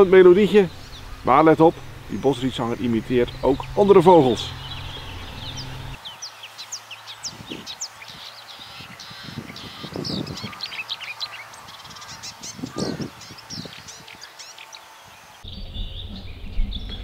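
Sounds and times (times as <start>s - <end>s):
bird singing chirps and whistles: 2.3s - 17.0s.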